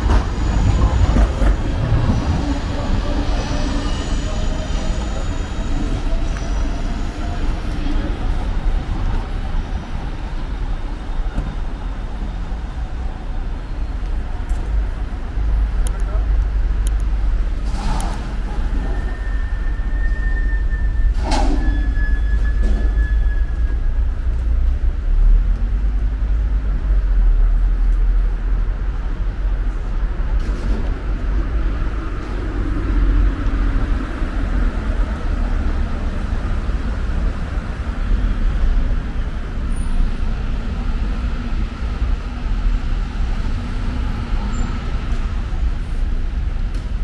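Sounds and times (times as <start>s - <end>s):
city traffic rumble: 0.0s - 47.0s.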